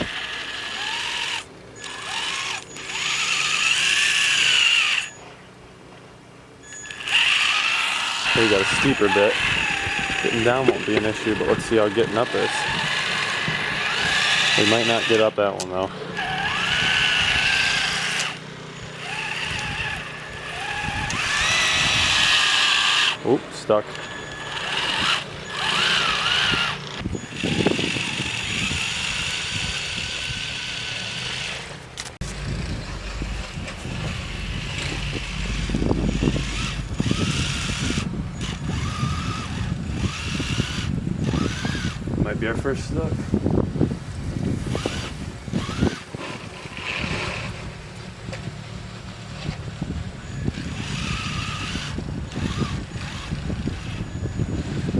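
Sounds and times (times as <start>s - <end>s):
electric motor whining: 0.0s - 54.9s.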